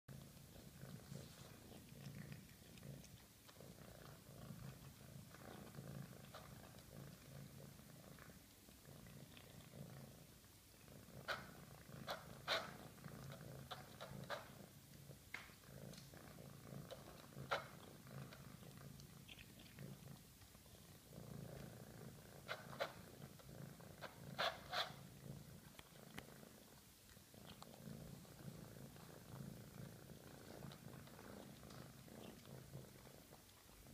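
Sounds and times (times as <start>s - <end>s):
cat purring: 0.1s - 33.9s.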